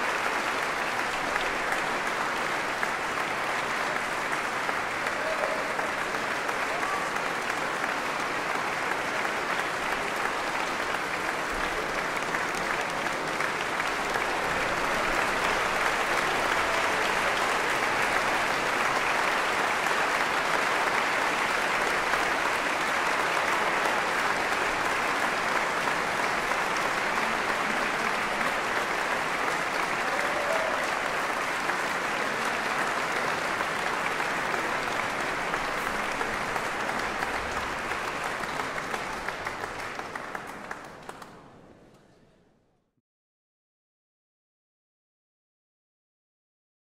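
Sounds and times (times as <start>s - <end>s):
audience applauding: 0.0s - 41.6s.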